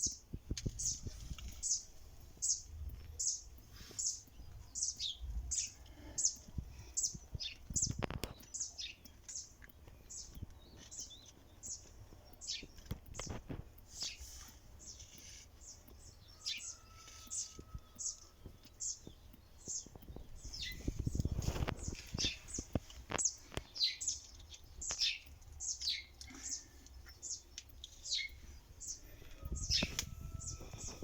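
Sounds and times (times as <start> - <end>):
small bird chirping: 0.0 - 31.0.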